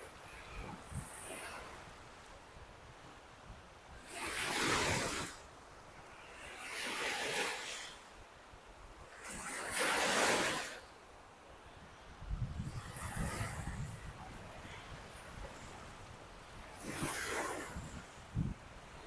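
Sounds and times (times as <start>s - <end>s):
waves washing up a beach: 0.0s - 19.0s.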